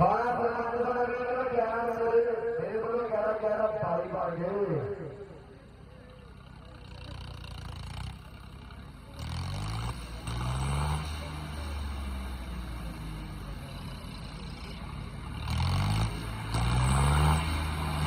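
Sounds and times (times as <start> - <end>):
tractor diesel engine labouring: 0.0 - 18.0.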